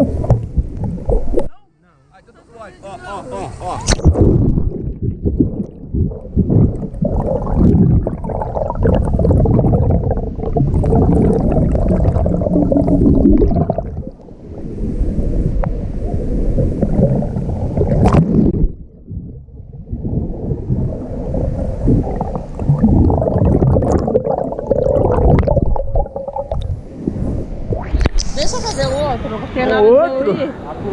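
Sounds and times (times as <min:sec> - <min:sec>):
deep rumbling and gurgling: 0:00.0 - 0:01.5, 0:03.9 - 0:29.1
muffled underwater water churning: 0:00.0 - 0:01.5, 0:03.5 - 0:29.6.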